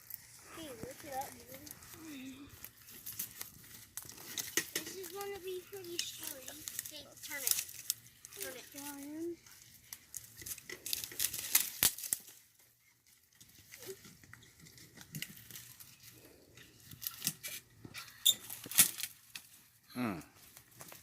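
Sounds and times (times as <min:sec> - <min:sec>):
dry leaves and twigs crackling: 0:00.0 - 0:21.0.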